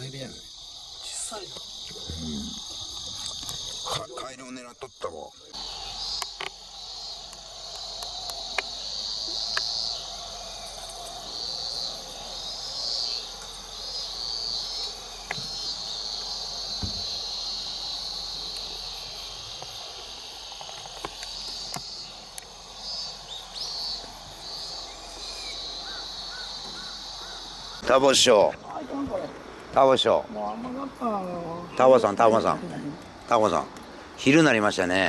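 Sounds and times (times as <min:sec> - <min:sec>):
insects singing: 0:00.0 - 0:35.0.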